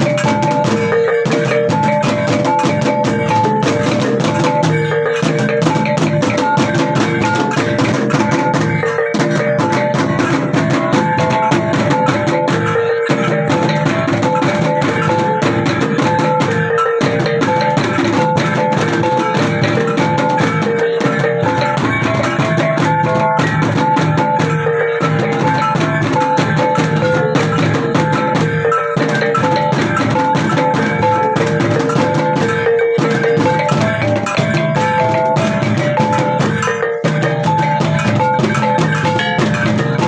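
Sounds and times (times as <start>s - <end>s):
drums beating: 0.0s - 40.0s
pitched struck notes: 0.0s - 40.0s.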